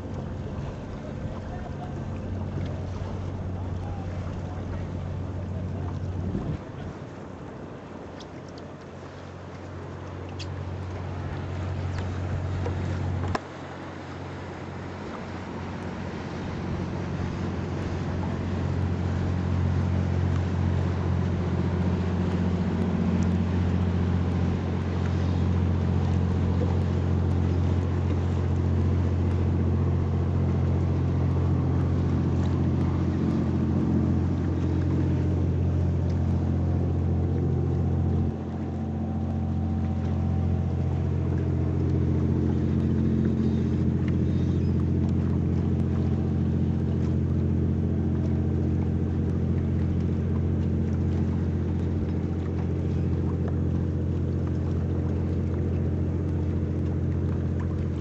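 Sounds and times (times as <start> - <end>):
motorboat engine humming: 0.0 - 58.0.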